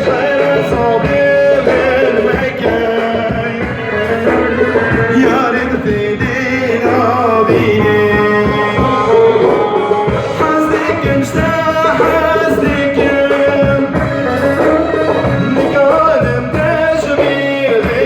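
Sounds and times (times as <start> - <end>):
instruments and drum beat: 0.0 - 18.0
person singing with vibrato: 0.0 - 18.0.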